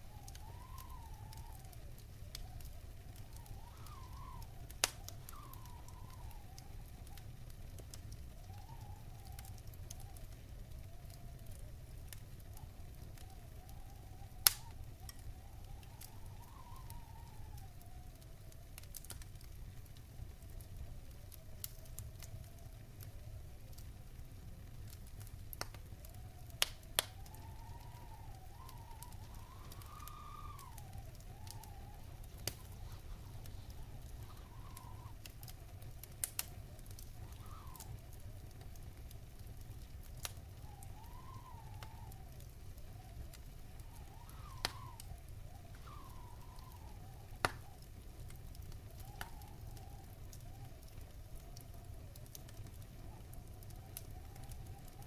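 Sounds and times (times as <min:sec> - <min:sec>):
faint wavering whistle: 0:00.0 - 0:19.2, 0:25.8 - 0:55.0
wood fire crackling: 0:00.0 - 0:55.0.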